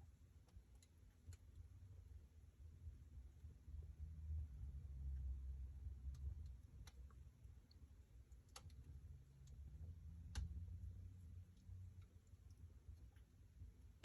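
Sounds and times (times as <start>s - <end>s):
low rumble of burning fire: 0.0s - 14.0s.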